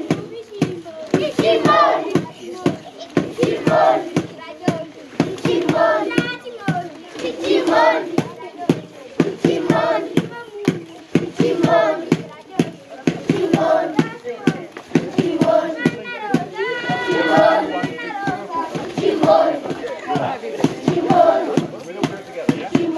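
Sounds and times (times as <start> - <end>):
children singing: 0.0 - 22.9
rhythmic hand clapping: 0.0 - 22.9.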